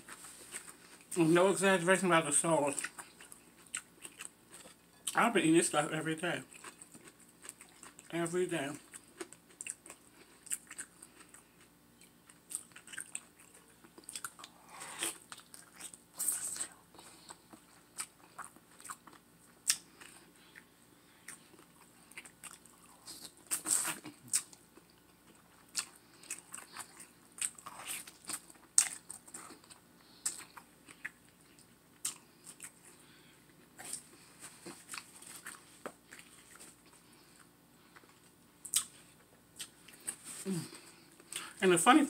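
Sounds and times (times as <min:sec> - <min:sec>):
biting and chewing meat: 0:02.6 - 0:05.2, 0:06.4 - 0:40.2.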